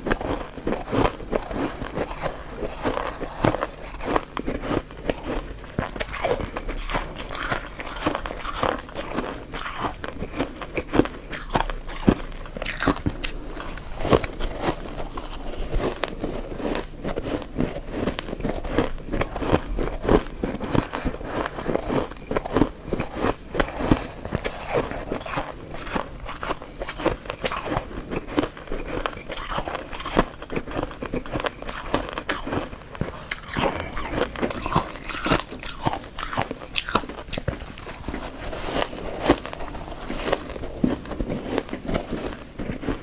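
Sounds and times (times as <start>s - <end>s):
frost crunching being chewed: 0.0s - 43.0s.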